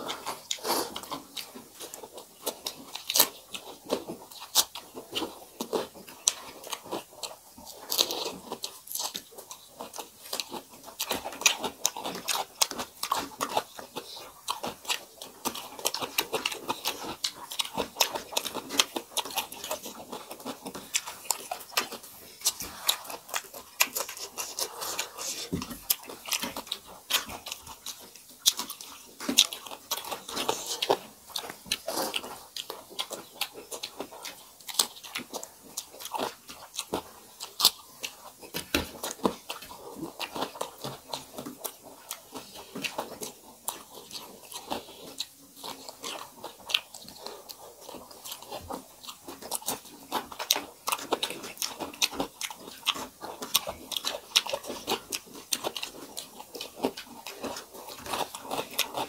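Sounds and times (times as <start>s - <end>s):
people chewing with mouth smacks: 0.0s - 59.0s.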